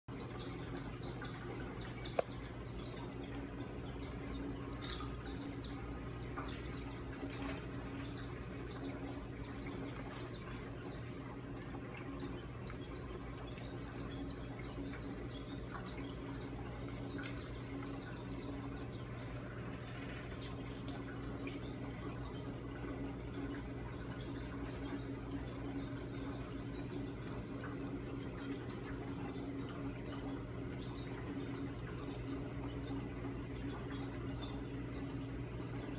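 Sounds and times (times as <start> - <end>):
aquarium pump humming: 0.1 - 35.9
water bubbling and trickling: 0.1 - 35.9.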